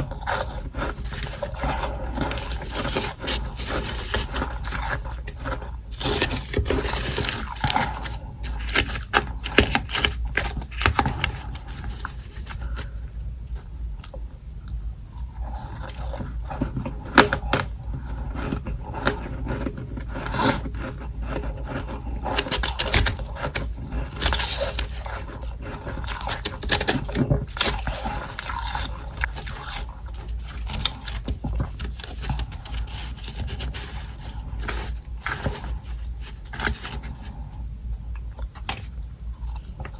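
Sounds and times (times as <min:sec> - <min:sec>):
scraping and crunching frost: 0:00.0 - 0:12.9, 0:15.5 - 0:37.4.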